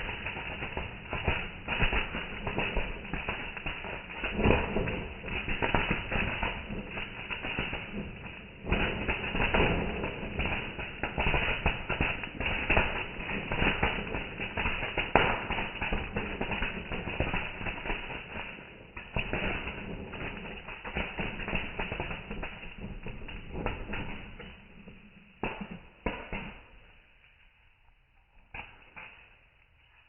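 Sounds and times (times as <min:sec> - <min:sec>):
fireworks crackling and banging: 0:00.0 - 0:27.5, 0:28.2 - 0:30.0.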